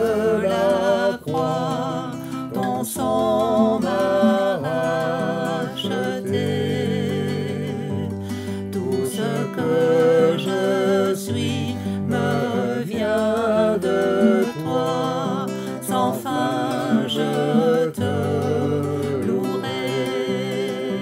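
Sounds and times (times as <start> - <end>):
acoustic guitar: 0.0 - 21.0
person singing with vibrato: 0.0 - 21.0.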